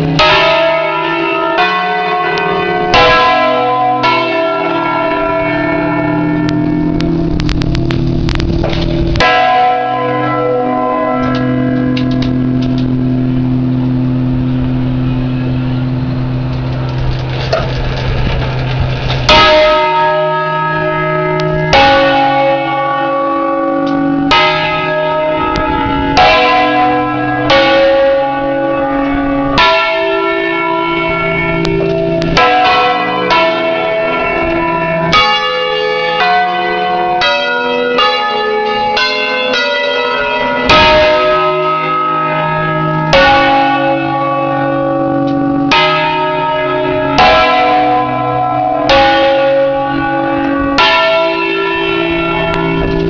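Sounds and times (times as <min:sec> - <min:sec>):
church bell strokes: 0:00.0 - 0:53.0
lingering bell hum: 0:00.0 - 0:53.0.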